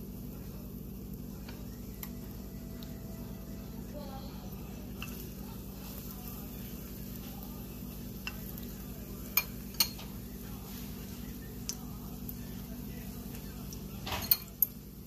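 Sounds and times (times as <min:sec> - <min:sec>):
battered slices sizzling in oil: 0:00.0 - 0:15.0
steady low hum: 0:00.0 - 0:15.0.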